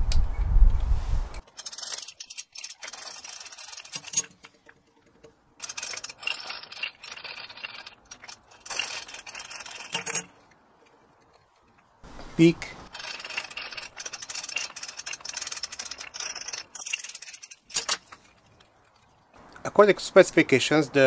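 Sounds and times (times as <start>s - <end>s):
chain hoist ratcheting: 1.4s - 12.0s, 12.9s - 19.4s
chain rattling: 1.5s - 12.0s, 12.9s - 19.4s.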